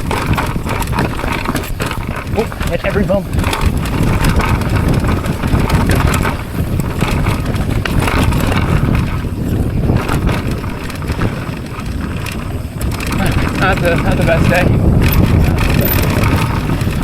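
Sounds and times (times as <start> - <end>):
bicycle rattling on trail: 0.0 - 17.0
wind buffeting microphone: 0.0 - 17.0.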